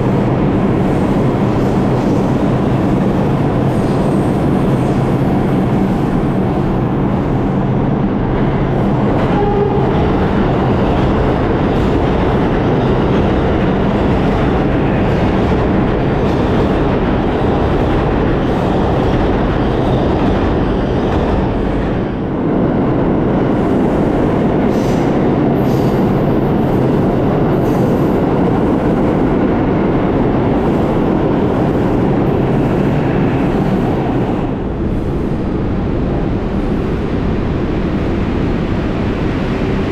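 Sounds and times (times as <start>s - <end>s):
subway train wheels rumbling: 0.0s - 39.9s.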